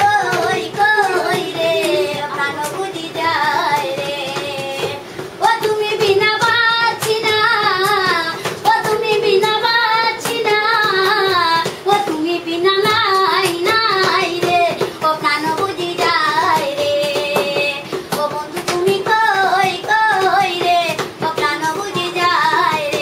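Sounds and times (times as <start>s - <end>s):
hand taps or claps: 0.0s - 23.0s
person singing unaccompanied: 0.0s - 23.0s.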